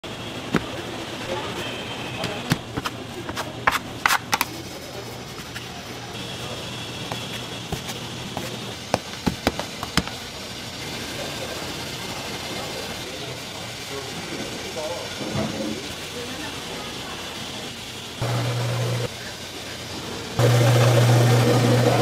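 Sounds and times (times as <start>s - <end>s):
steady background hum: 0.0s - 20.4s.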